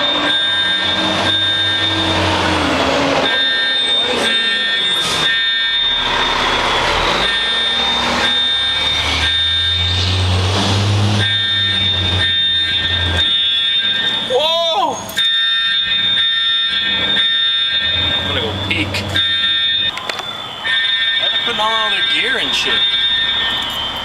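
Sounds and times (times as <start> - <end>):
diesel fire truck engine running: 0.0 - 24.0
fire alarm high tones: 0.0 - 24.0.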